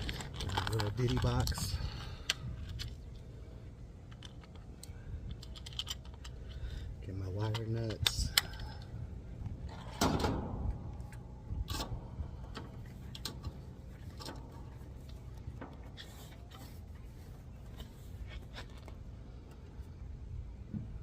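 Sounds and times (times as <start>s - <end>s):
clicks and rubbing of parts: 0.0s - 3.3s, 4.0s - 19.9s
steady low rumble: 0.0s - 21.0s.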